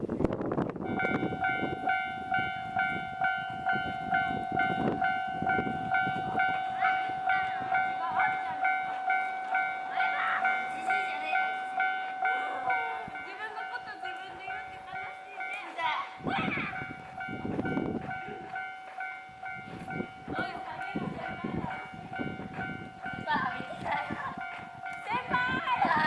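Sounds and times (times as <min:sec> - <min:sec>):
train rumble: 0:00.0 - 0:26.0
level-crossing warning bell: 0:00.5 - 0:26.0.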